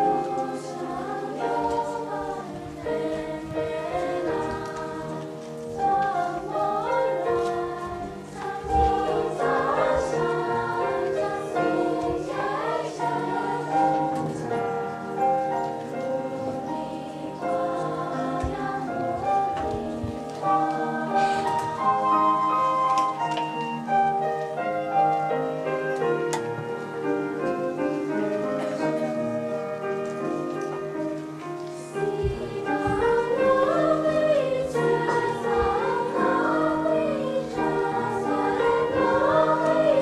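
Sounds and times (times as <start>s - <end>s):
girls' choir singing: 0.0s - 40.0s
piano accompaniment: 0.0s - 40.0s.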